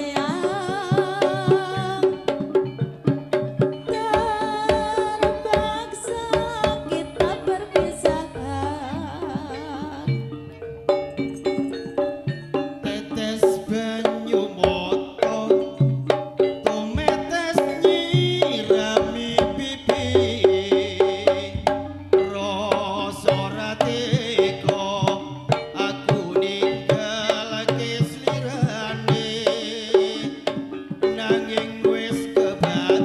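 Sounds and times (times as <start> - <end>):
hand drums: 0.0 - 33.0
ringing metallophones: 0.0 - 33.0
wavering melody line: 0.0 - 33.0.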